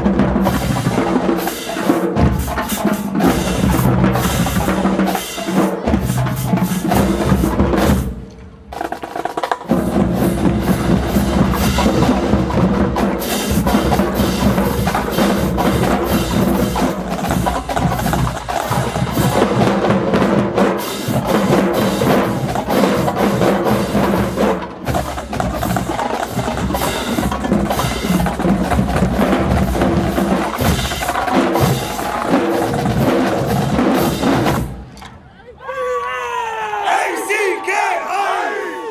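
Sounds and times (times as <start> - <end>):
marching drumline cadence: 0.0 - 38.9.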